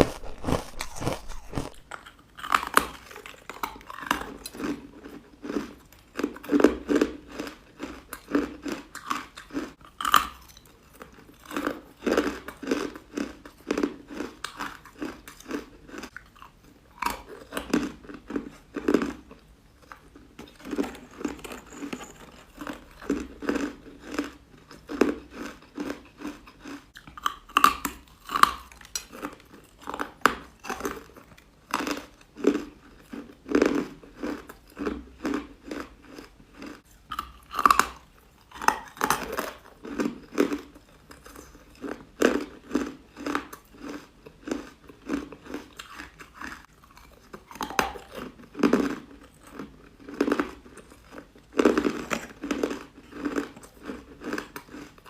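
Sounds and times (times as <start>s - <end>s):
person chewing crunchy ice: 0.0s - 55.0s.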